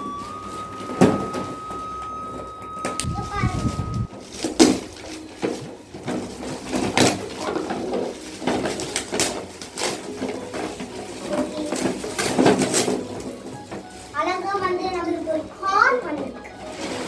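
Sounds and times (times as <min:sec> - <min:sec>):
foil wrapping paper crinkling: 0:00.0 - 0:02.0, 0:02.9 - 0:17.0.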